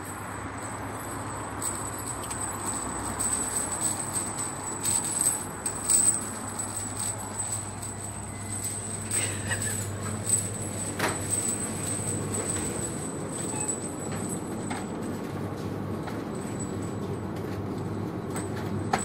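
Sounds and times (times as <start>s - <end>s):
metal chains jangling: 0.0s - 17.3s, 18.2s - 19.0s.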